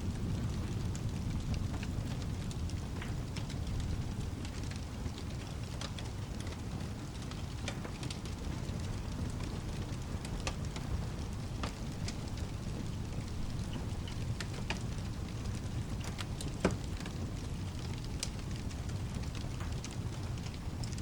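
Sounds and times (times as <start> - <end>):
low rumble of rain: 0.0 - 21.0
wood fire crackling: 0.0 - 21.0.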